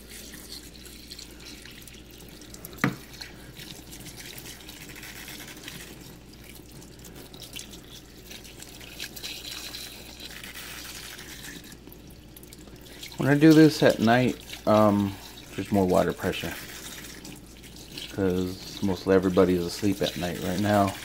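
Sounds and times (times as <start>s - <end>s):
tap water running into tub: 0.0s - 21.0s.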